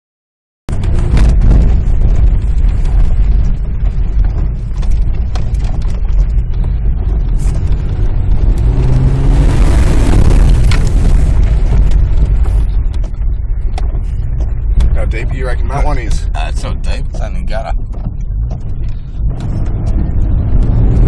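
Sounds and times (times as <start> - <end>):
engine and road rumble: 0.7 - 21.0.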